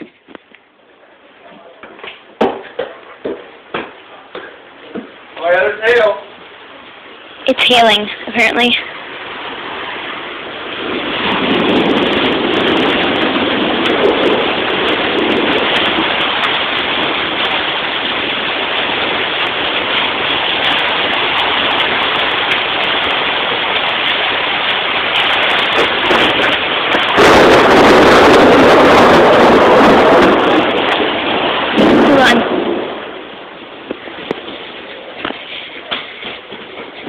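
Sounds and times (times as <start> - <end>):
heavy rain and hail: 2.1 - 37.0
sharp ticks of hail: 2.4 - 37.0.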